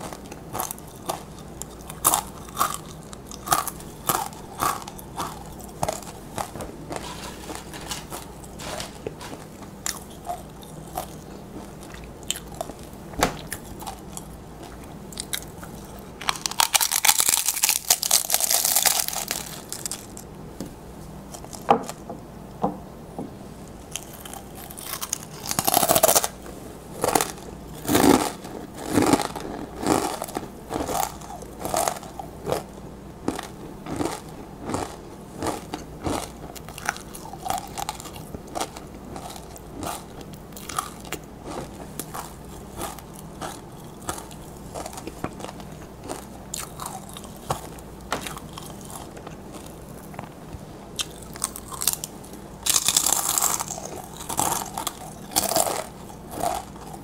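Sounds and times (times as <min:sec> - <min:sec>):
tortilla chips crunching: 0:00.0 - 0:20.3, 0:23.9 - 0:26.4, 0:27.0 - 0:50.3, 0:51.0 - 0:57.0.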